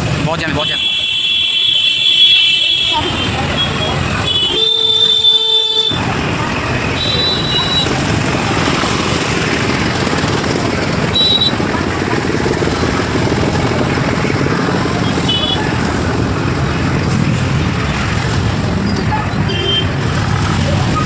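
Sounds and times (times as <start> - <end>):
traffic engine and road noise: 0.0 - 21.0.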